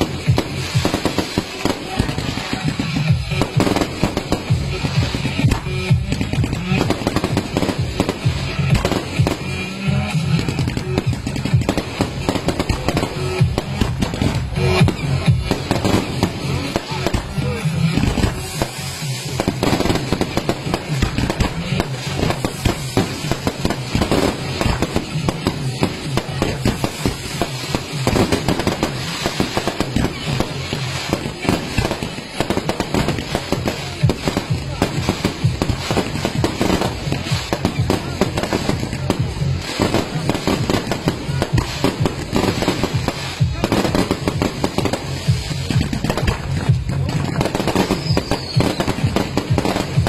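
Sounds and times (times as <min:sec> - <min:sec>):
fireworks banging and crackling: 0:00.0 - 0:50.0
music playing: 0:00.0 - 0:50.0.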